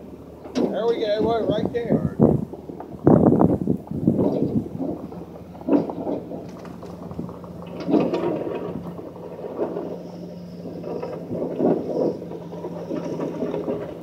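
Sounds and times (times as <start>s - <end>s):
engines running: 0.0s - 14.0s
low rumbling surges: 0.0s - 14.0s.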